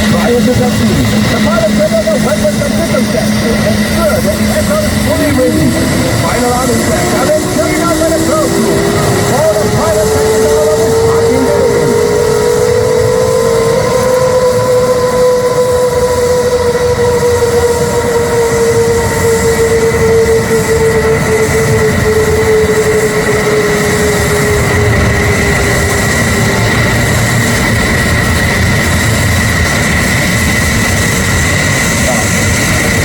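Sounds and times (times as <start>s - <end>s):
jet engine rushing rumble: 0.0s - 33.0s
jet turbine whine: 0.0s - 33.0s.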